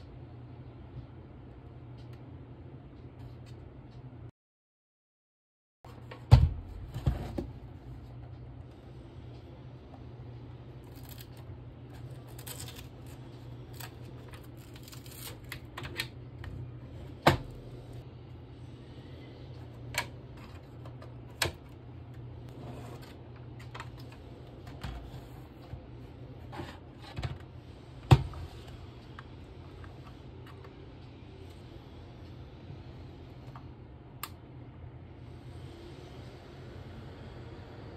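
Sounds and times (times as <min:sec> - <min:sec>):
steady low hum: 0:00.0 - 0:04.3, 0:05.9 - 0:37.9.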